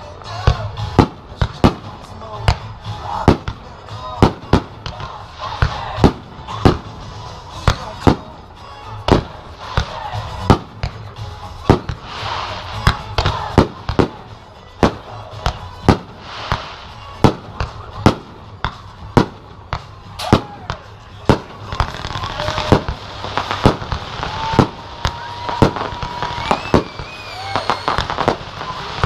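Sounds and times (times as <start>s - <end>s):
fireworks crackle: 0.0s - 29.0s
fireworks bangs: 0.2s - 29.0s.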